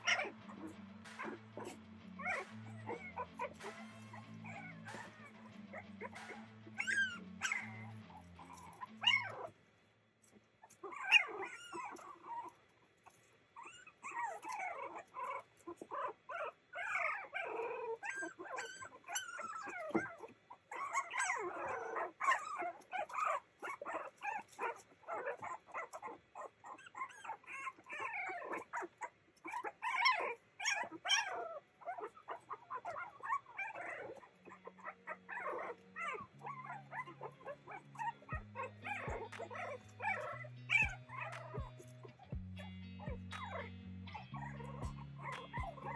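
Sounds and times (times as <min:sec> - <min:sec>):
puppies crying: 0:00.0 - 0:09.6, 0:10.3 - 0:45.9.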